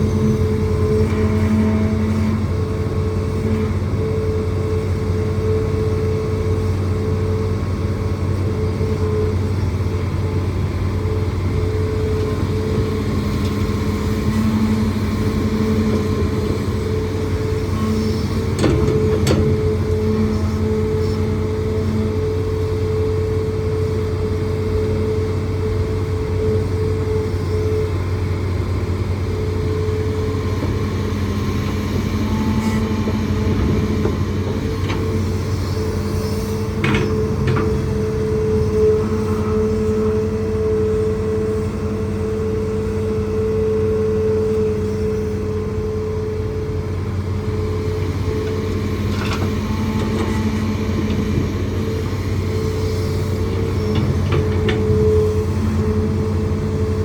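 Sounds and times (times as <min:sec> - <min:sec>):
excavator diesel engine running: 0:00.0 - 0:57.0
hydraulic whine: 0:00.0 - 0:57.0.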